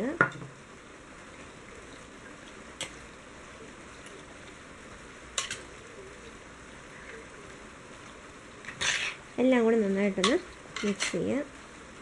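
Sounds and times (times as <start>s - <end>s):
wet mixture rustling: 1.1s - 12.0s.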